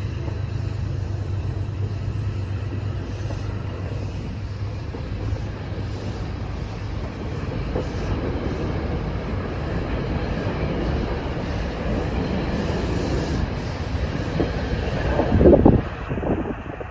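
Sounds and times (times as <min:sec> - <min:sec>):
train rumbling on rails: 0:00.0 - 0:16.9.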